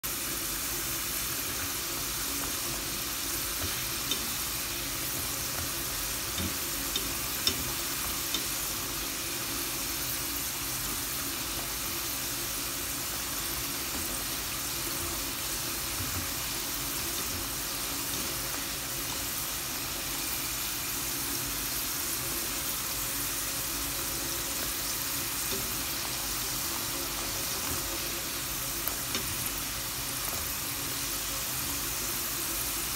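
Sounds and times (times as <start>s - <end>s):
dough deep-frying in hot oil: 0.0s - 32.9s.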